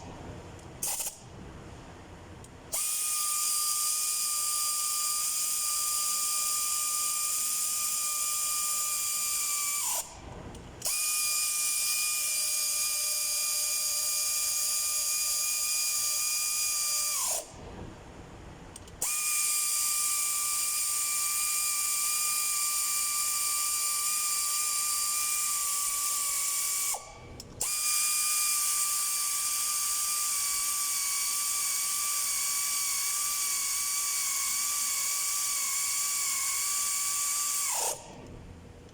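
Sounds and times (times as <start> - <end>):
power ratchet whining: 0.6 - 1.2, 2.7 - 17.6, 18.7 - 38.3.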